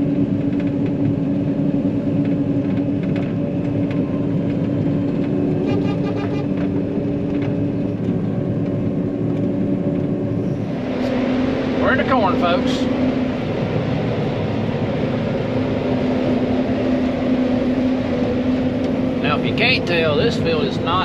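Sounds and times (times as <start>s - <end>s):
combine engine drone: 0.0s - 21.0s.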